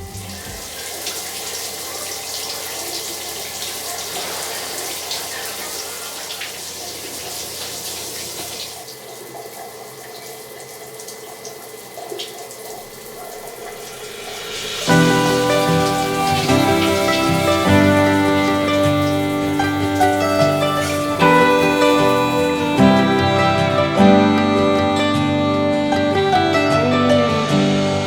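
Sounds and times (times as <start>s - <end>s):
water running from tap into sink: 0.0s - 25.1s.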